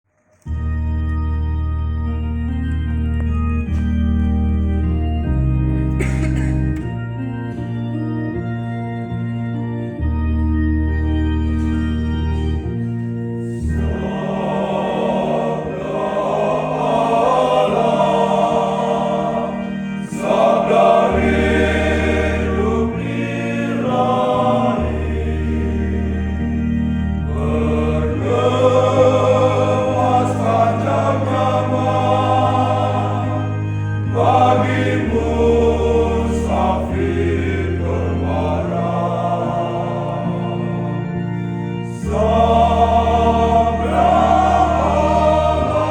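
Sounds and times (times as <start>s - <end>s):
organ playing chords: 0.2s - 45.9s
choir singing a hymn: 5.3s - 8.4s, 11.6s - 45.9s.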